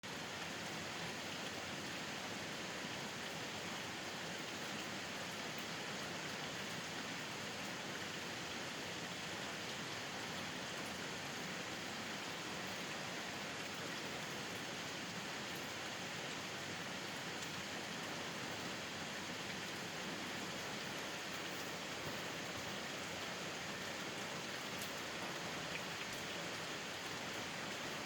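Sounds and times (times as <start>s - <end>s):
rain pattering on surfaces: 0.1s - 28.0s.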